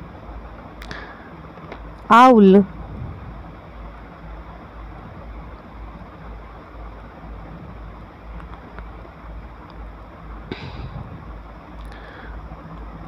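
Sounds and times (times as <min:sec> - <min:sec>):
low pulsing rumble: 0:00.0 - 0:13.0.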